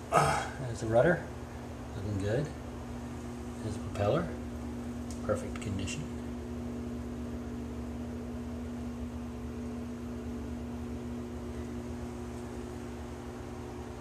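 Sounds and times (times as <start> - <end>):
low hum with held tones: 0.0 - 14.0.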